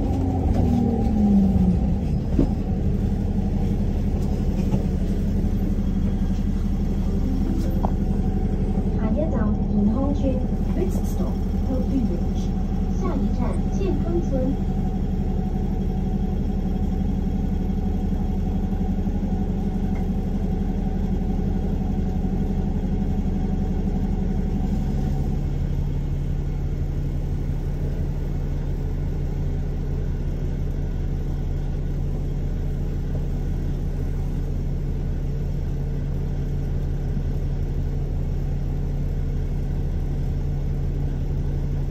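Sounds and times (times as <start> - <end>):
tram interior hum and rumble: 0.0 - 41.9.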